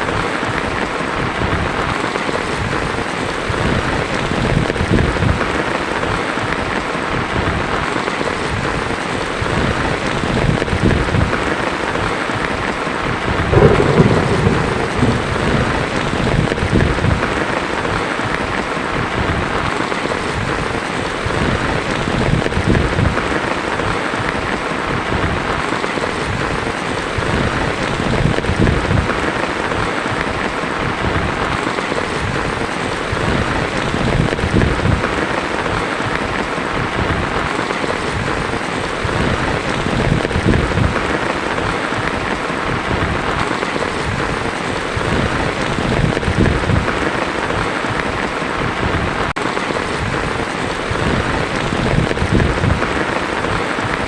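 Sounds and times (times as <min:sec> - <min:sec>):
rain on a tin roof: 0:00.0 - 0:54.0
thunder rumbling: 0:09.5 - 0:24.2, 0:24.9 - 0:54.0.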